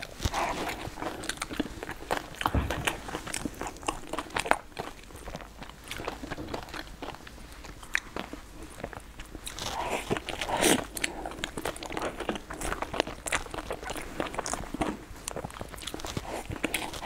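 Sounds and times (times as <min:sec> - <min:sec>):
chewing soft dumplings: 0:00.0 - 0:17.0.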